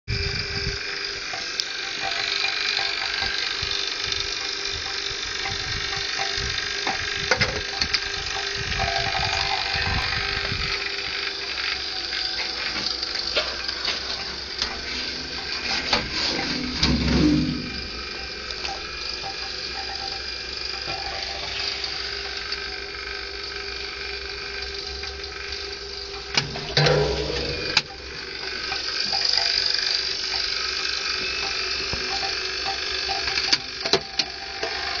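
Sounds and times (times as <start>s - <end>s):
machine running with hum and hiss: 0.1s - 35.0s
scattered clicks: 0.8s - 35.0s.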